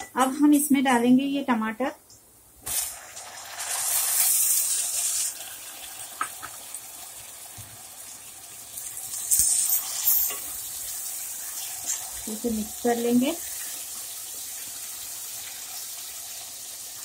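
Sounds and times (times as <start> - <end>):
tomatoes sizzling in a pot: 2.5 - 17.0.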